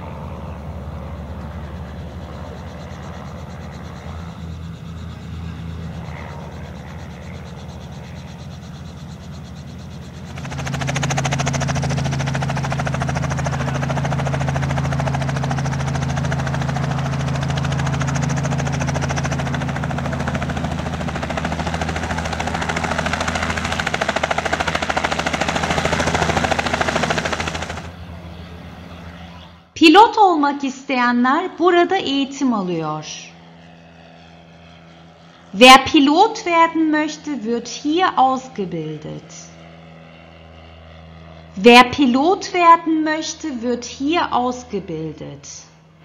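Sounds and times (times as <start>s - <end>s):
helicopter flying low: 0.0s - 46.0s
light aircraft engine taxiing: 0.0s - 46.0s.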